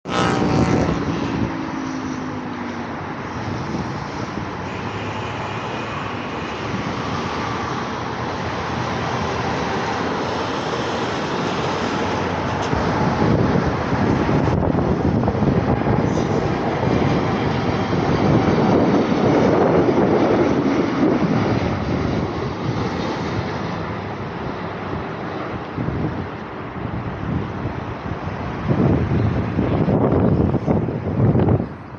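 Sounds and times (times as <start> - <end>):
road traffic: 0.0 - 31.9
jet roar passing overhead: 0.1 - 31.9.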